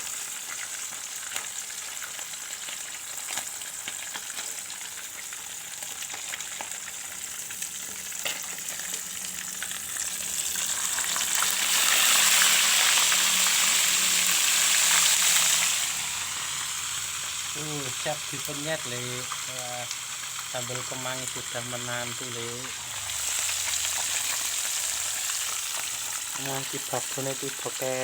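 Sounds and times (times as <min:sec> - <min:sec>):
fish deep-frying in oil: 0:00.0 - 0:28.0.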